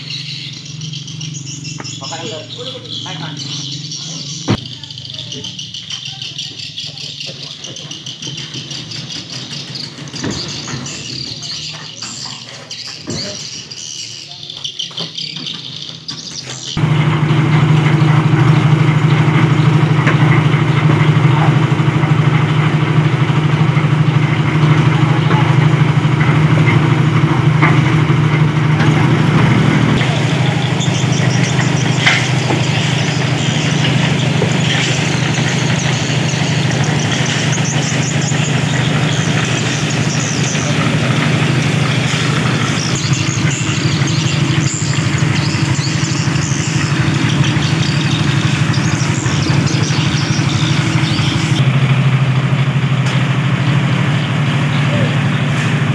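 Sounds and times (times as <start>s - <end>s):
concrete mixer engine running: 0.0s - 13.9s, 16.8s - 55.9s.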